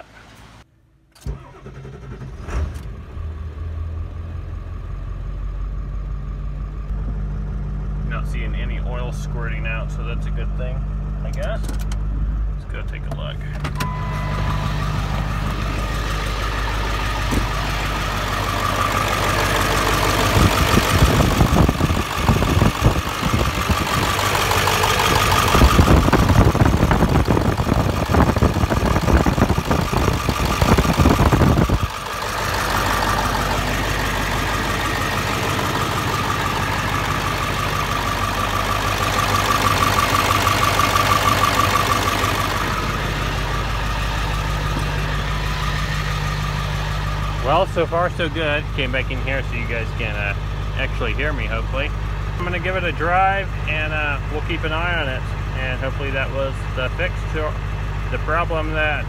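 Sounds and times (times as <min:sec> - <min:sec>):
diesel engine idling: 0:03.4 - 0:59.0.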